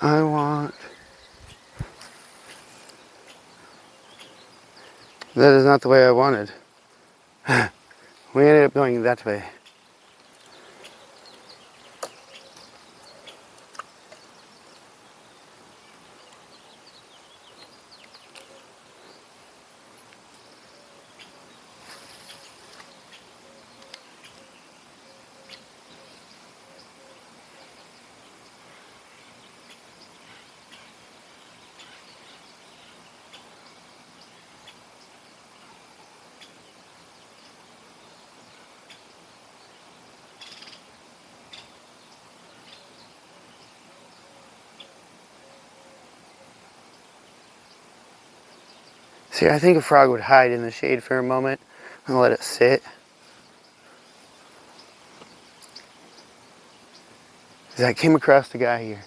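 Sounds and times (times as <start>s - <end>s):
bird chirps: 0.0s - 5.9s, 9.0s - 19.3s, 20.0s - 59.0s
steady hiss: 0.0s - 59.0s.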